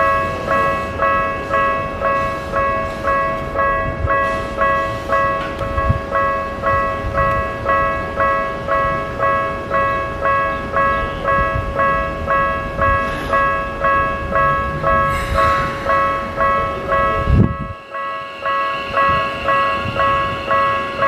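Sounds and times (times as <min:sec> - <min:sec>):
level-crossing warning bell: 0:00.0 - 0:21.0
passing train rumble: 0:00.0 - 0:21.0.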